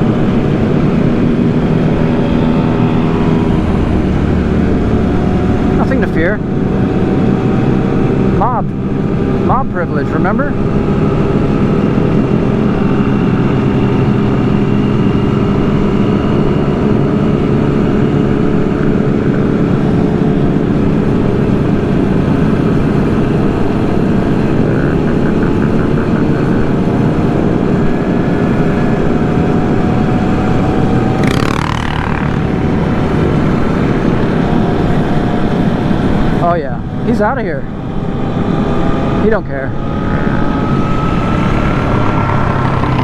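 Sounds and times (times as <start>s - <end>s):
motorcycle engines cruising: 0.0s - 43.0s
road and wind noise: 0.0s - 43.0s.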